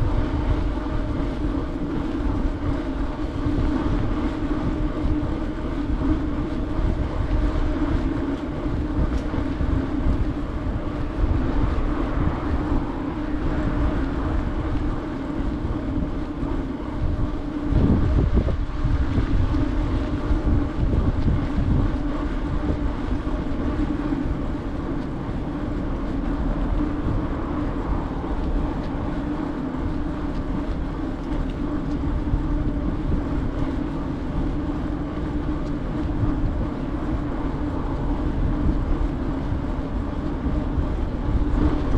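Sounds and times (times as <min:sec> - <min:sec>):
bicycle tyres rumbling on pavement: 0:00.0 - 0:41.9
wind buffeting microphone: 0:00.0 - 0:41.9.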